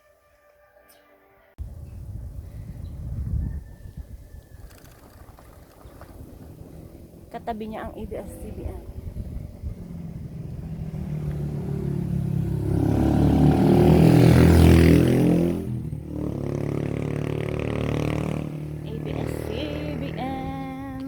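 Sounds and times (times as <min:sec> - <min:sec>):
motor vehicles passing: 0:01.6 - 0:21.0.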